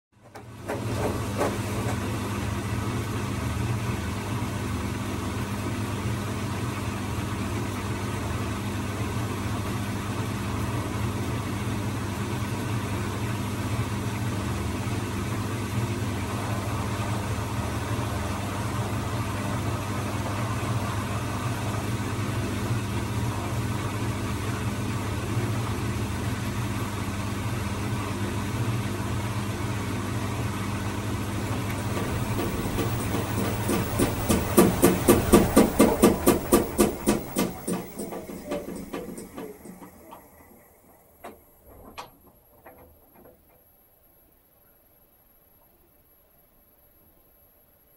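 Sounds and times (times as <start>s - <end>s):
washing machine humming: 0.2s - 44.0s.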